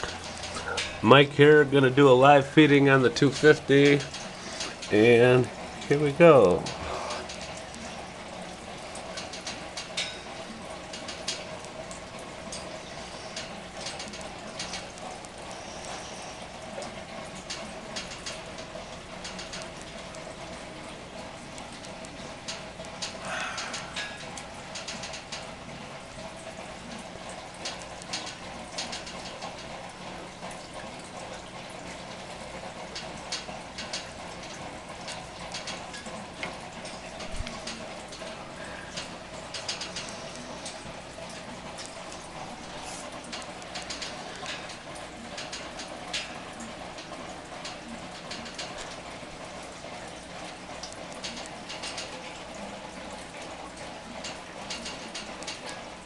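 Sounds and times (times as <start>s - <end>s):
aquarium filter running: 0.0s - 56.0s
low equipment hum: 0.0s - 56.0s
small clicks and splashes: 0.0s - 56.0s.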